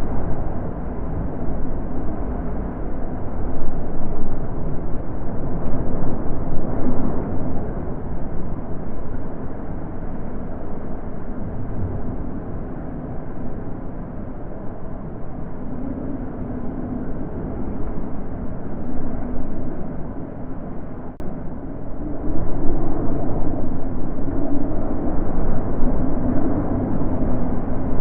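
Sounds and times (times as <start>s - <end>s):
wind blowing in gusts: 0.0s - 28.0s.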